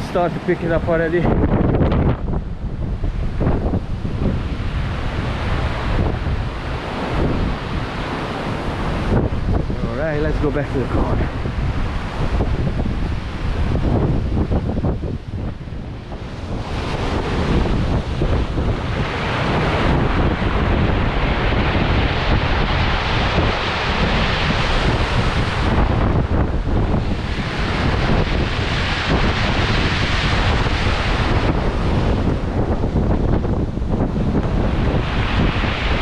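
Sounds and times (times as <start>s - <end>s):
strong wind buffeting microphone: 0.0s - 36.0s.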